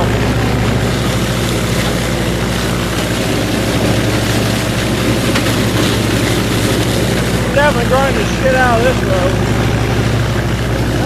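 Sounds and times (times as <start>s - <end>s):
stalk chopper whirring: 0.0s - 11.0s
tractor engine drone: 0.0s - 11.0s.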